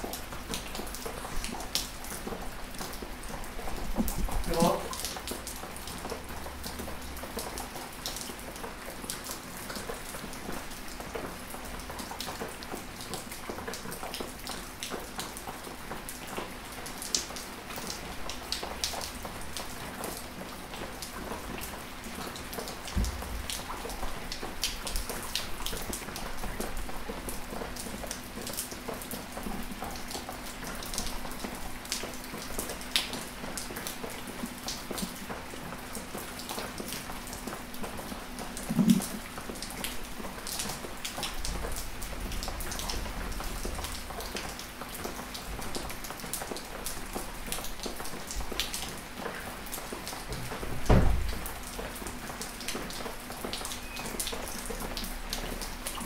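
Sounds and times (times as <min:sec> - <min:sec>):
gentle rain hissing: 0:00.0 - 0:56.0
raindrops ticking close by: 0:00.0 - 0:56.0.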